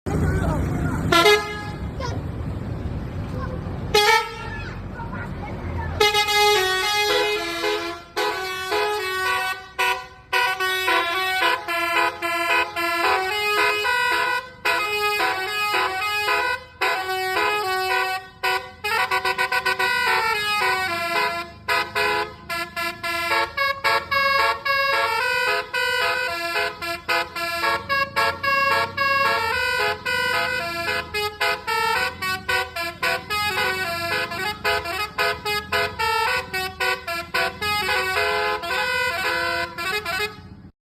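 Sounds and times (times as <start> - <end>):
bus horn playing a melody: 1.0 - 2.0, 3.9 - 4.7, 6.0 - 40.7.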